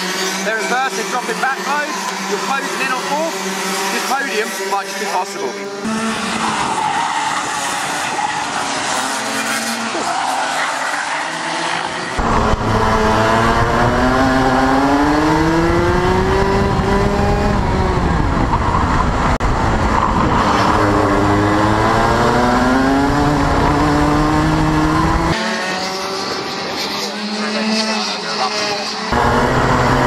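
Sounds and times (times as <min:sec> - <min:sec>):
kart engine revving: 0:00.0 - 0:30.0.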